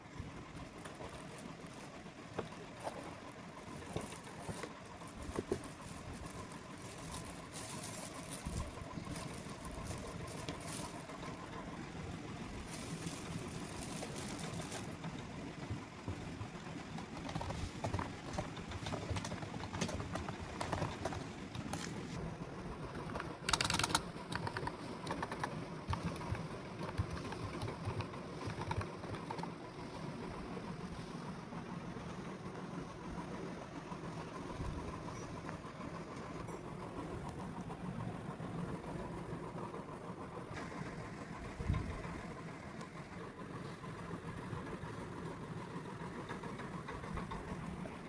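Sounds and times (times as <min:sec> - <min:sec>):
steady background hum: 0:00.0 - 0:48.0.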